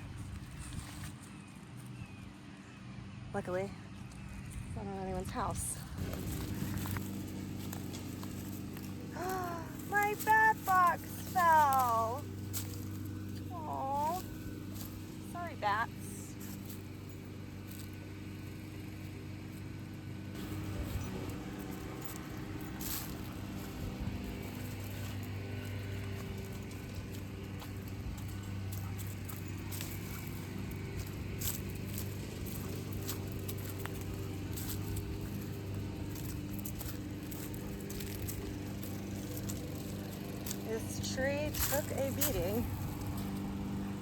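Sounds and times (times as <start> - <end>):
golf cart motor hum: 0.0 - 44.0
road noise: 0.0 - 44.0.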